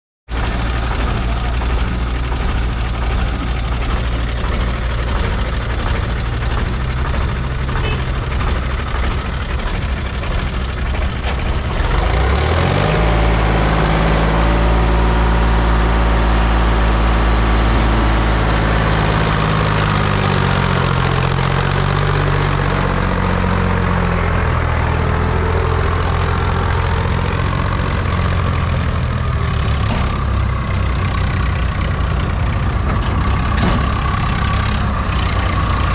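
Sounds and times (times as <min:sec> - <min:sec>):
diesel engine idling and revving: 0:00.3 - 0:35.9.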